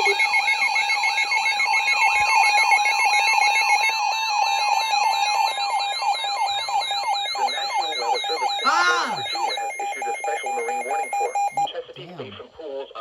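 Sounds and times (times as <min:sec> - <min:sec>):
warbling alert tone: 0:00.0 - 0:11.7.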